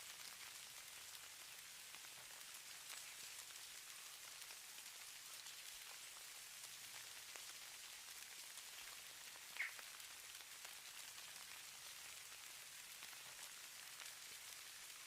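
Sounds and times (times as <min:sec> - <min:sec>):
snow falling with soft ticks: 0:00.0 - 0:15.0.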